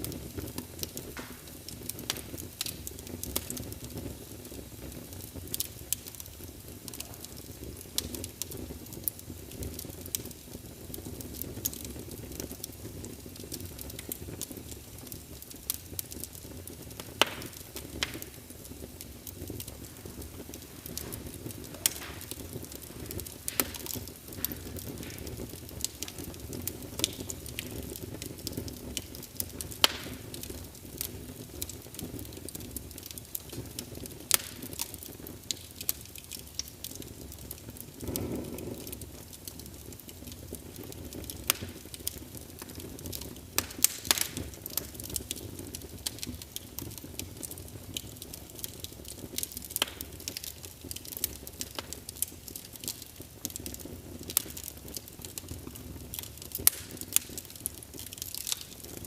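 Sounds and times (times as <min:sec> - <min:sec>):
log fire crackling and popping: 0:00.0 - 0:59.0
low rumble of flame: 0:00.0 - 0:59.0.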